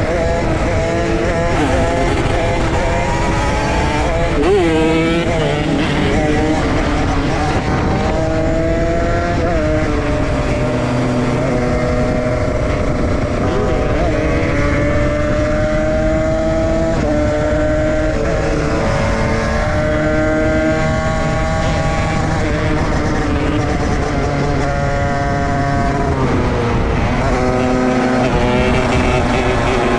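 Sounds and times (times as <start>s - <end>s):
dirt bike engines revving: 0.0s - 29.9s.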